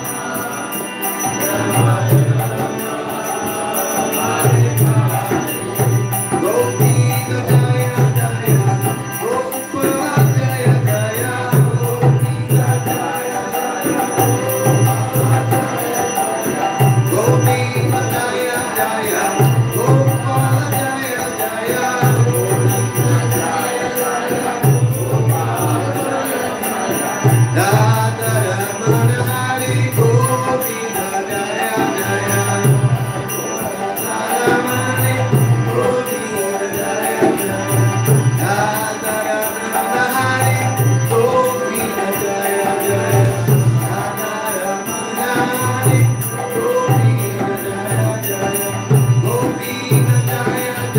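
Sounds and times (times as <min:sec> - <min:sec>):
harmonium: 0:00.0 - 0:50.9
man singing a chant: 0:00.0 - 0:50.9.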